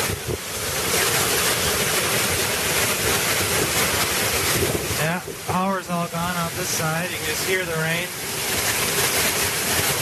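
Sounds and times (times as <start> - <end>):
torrential rain pouring: 0.0 - 10.0.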